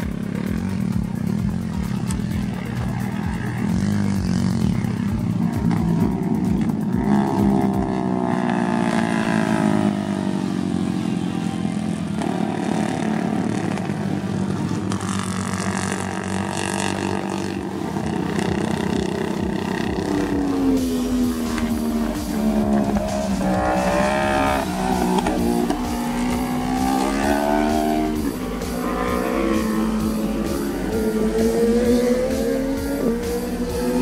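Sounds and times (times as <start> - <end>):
motorcycle passing by: 0.0 - 34.0
racing motorcycle engines: 0.0 - 34.0.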